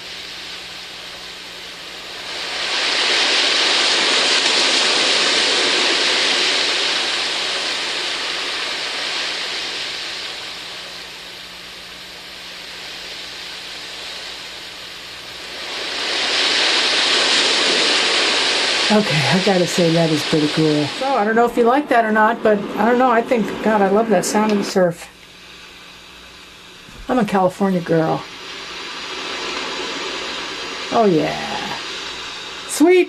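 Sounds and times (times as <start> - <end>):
sound machine playing waves: 0.0 - 33.0.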